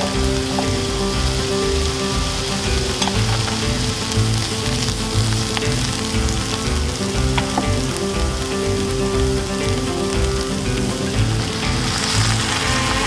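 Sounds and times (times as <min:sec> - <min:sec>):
onions sizzling in a frying pan: 0:00.0 - 0:13.0.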